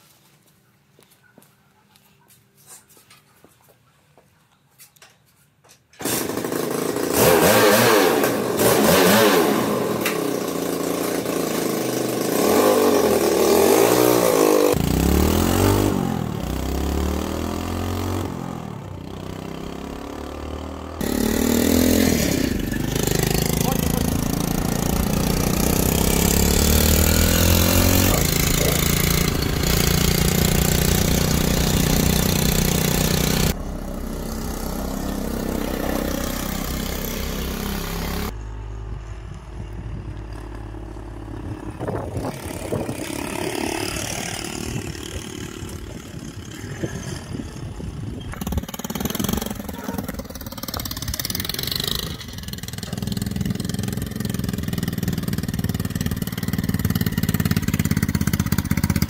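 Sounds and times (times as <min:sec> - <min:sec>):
motorcycle engine accelerating: 0:06.0 - 0:59.0.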